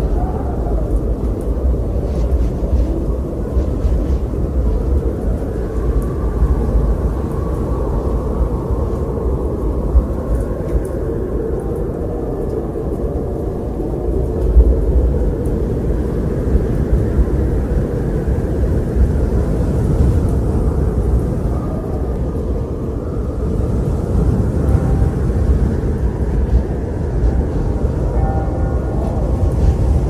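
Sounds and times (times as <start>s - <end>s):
faint wavering wind whistle: 0.0s - 30.0s
wind rumbling: 0.0s - 30.0s.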